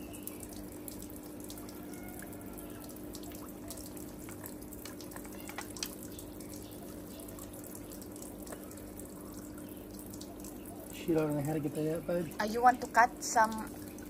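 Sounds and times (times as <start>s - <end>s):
low pump hum: 0.0s - 14.0s
small drips and ticks: 0.0s - 14.0s
water trickling into a tank: 0.0s - 14.0s.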